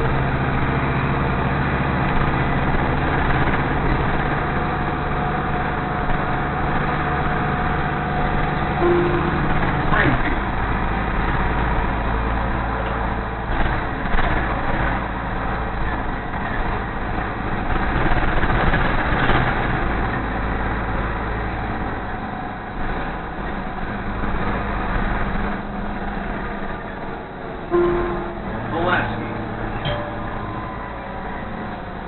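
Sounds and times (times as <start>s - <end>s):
bus engine and road noise: 0.0s - 32.0s.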